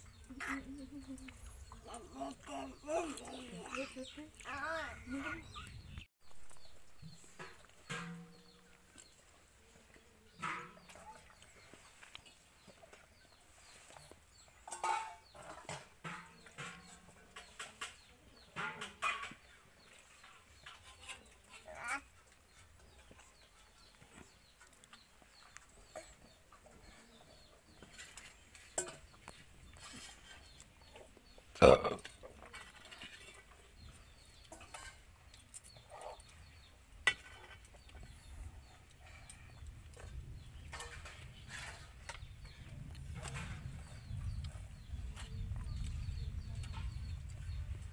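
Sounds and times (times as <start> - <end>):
chickens clucking: 0.0 - 9.1, 10.0 - 42.0.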